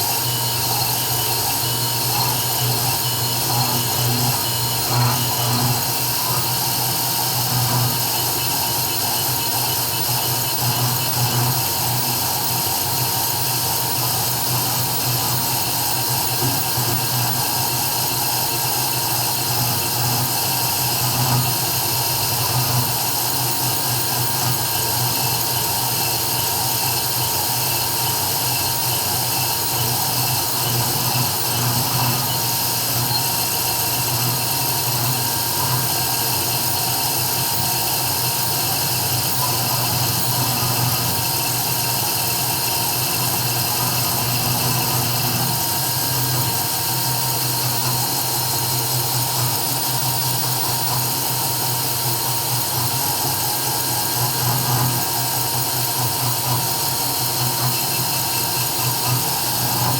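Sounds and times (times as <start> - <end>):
router spindle motor whine: 0.0 - 59.9.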